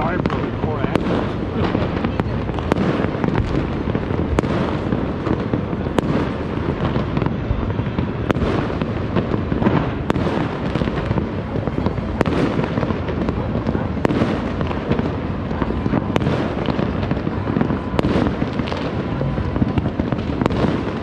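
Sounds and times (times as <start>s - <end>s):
firecracker cracks and pops: 0.0s - 21.0s
rumble of distant fireworks: 0.0s - 21.0s.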